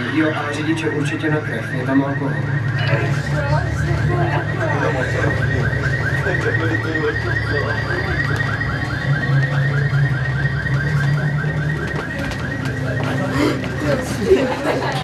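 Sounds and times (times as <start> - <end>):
fast warbling electronic alarm: 0.0 - 15.0
steady low hum: 0.0 - 15.0.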